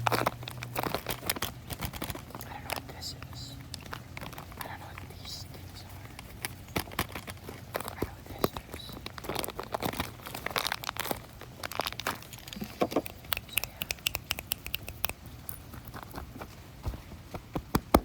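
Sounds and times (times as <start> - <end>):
plastic packaging crinkling and tearing: 0.0 - 16.7.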